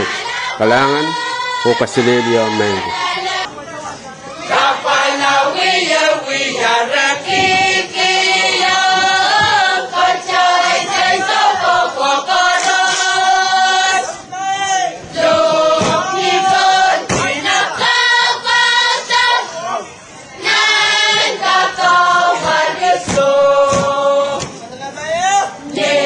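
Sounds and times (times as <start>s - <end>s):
choir singing: 0.0s - 3.5s, 4.4s - 14.2s, 15.0s - 19.8s, 20.4s - 24.6s, 25.6s - 26.0s.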